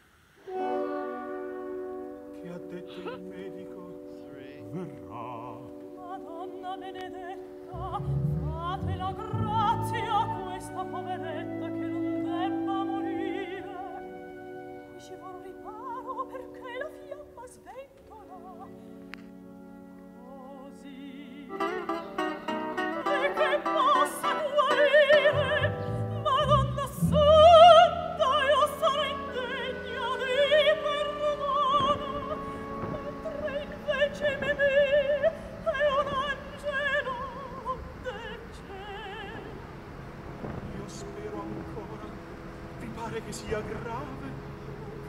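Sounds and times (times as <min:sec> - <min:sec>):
orchestra playing: 0:00.4 - 0:17.5, 0:19.3 - 0:45.0
operatic singing with vibrato: 0:00.4 - 0:18.8, 0:20.2 - 0:45.0.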